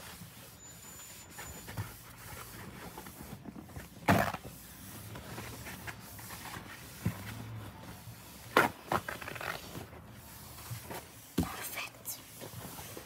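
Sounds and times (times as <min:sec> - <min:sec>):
paper towel rubbing on desk: 0:00.0 - 0:13.0.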